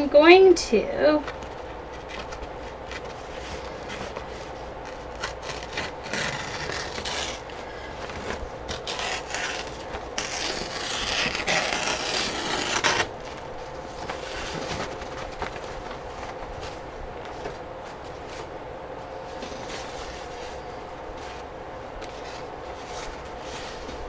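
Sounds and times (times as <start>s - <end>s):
paper rustling on a table: 1.2s - 24.0s.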